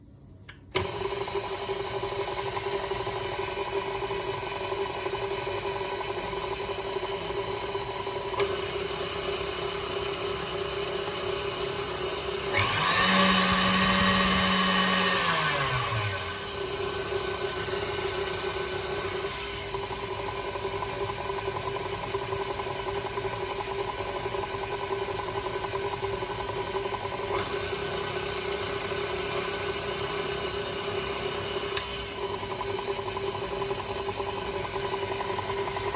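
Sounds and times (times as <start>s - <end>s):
electric mixer motor humming: 0.5s - 35.9s.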